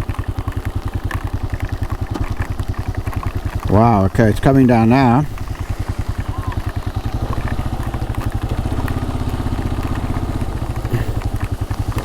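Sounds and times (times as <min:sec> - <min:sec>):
motorcycle engine idling: 0:00.0 - 0:12.0
rain falling: 0:00.0 - 0:12.0.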